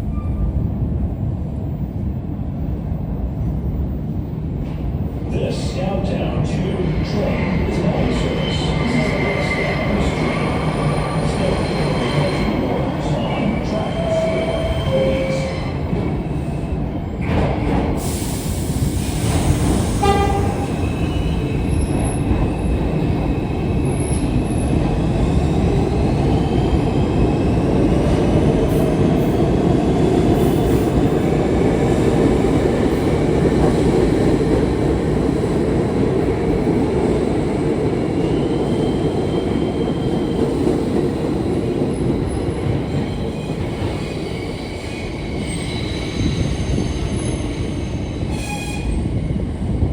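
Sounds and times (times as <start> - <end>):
subway train rumbling: 0.0 - 49.9.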